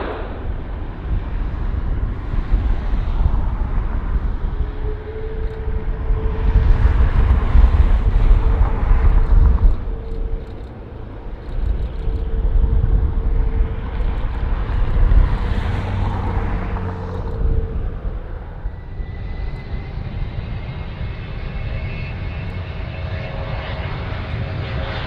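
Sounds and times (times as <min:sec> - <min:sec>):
jet engine whine: 0:00.0 - 0:25.0
jet engines rumbling: 0:00.0 - 0:25.0.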